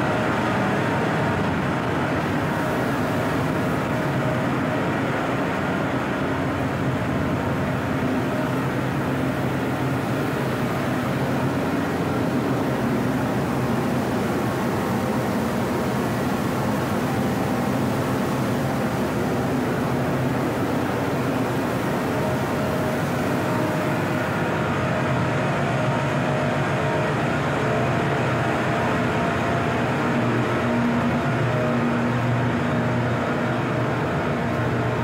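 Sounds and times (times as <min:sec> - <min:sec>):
ship machinery drone: 0:00.0 - 0:35.0.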